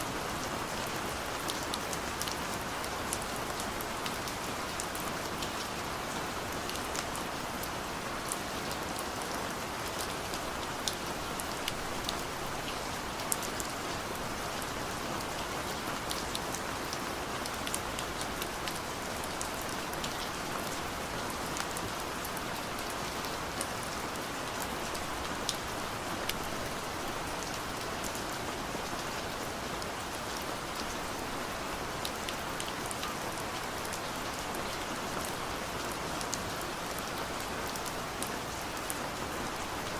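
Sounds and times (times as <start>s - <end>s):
rain on a car roof: 0.1s - 39.9s.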